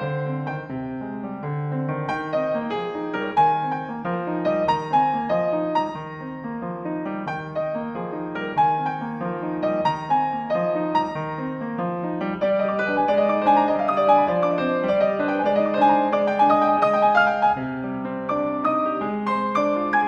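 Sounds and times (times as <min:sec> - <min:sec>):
solo piano broken chords: 0:00.0 - 0:20.0.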